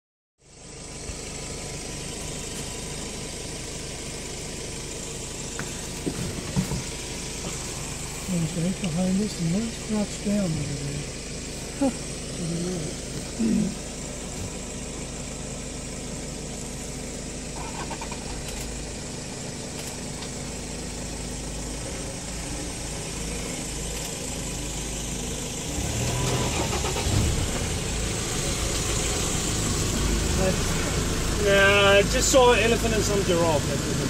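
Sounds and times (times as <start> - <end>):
vehicle engine idling: 0.4 - 34.0.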